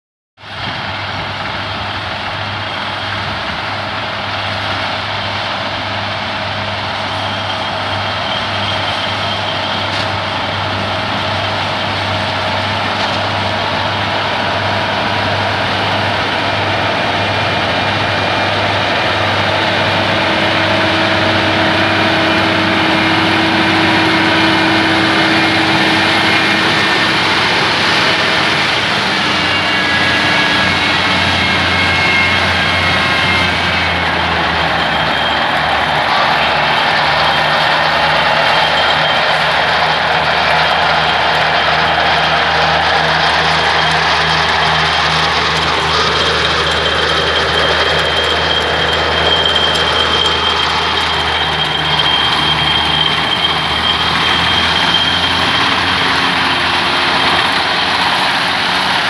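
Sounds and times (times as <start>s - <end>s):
tractor engine under load: 0.4s - 59.0s
mower whining: 1.3s - 59.0s.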